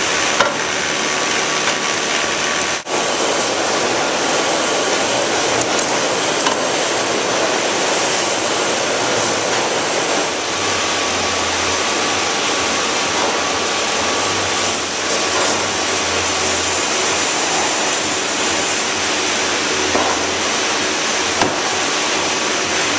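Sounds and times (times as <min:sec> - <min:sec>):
machinery running: 0:00.0 - 0:22.9.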